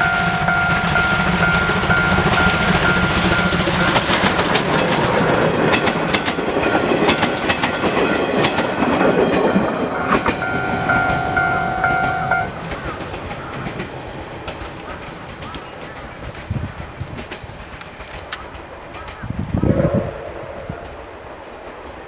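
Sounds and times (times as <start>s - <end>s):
steam train running noise: 0.0s - 22.0s
wheels clacking over rail joints: 0.0s - 22.0s.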